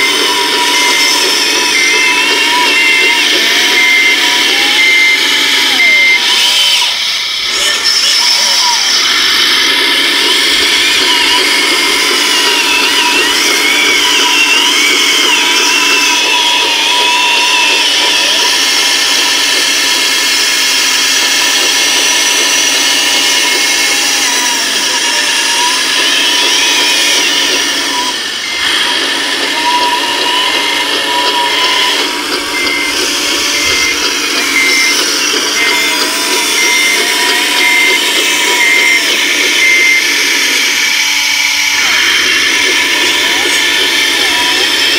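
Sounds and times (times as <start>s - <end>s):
electric motors whining: 0.0s - 44.9s.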